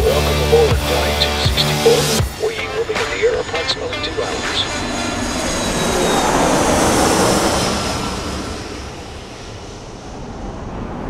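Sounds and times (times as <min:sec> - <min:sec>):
jet airliner rushing: 0:00.0 - 0:11.0.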